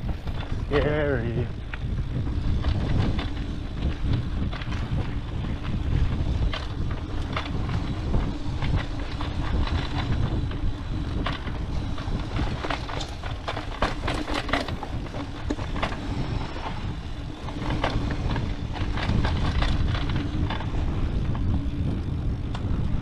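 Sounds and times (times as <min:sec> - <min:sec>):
bike clicking and rattling: 0:00.0 - 0:23.0
tyres on dirt: 0:00.0 - 0:23.0
wind rumbling on microphone: 0:00.0 - 0:23.0.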